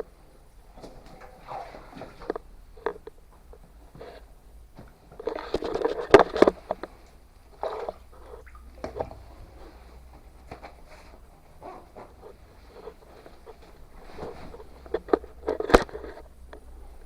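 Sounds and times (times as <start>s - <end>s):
scraping and rustling: 0.7s - 17.0s.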